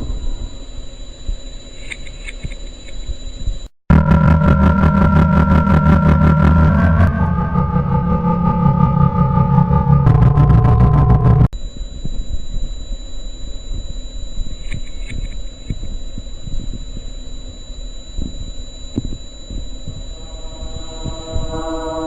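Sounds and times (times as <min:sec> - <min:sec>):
crackling rumble and static: 0:00.0 - 0:08.2, 0:08.8 - 0:22.0
high-pitched two-tone whine: 0:00.0 - 0:22.0.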